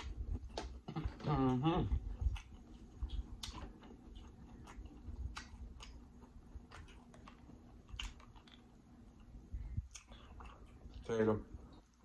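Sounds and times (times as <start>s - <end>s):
wet chewing and mouth smacks: 1.9s - 12.0s.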